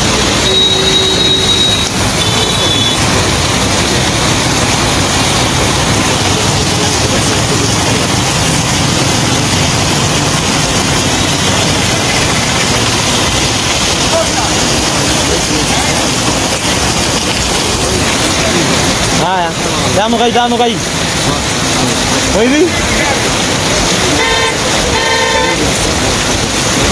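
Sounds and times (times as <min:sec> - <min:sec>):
heavy rain on flooded road: 0:00.0 - 0:26.9
vehicles driving through floodwater: 0:00.0 - 0:26.9.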